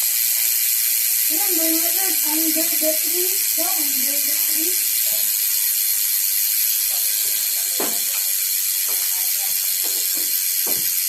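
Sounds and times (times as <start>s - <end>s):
bicycle hub ratcheting: 0.0s - 11.0s.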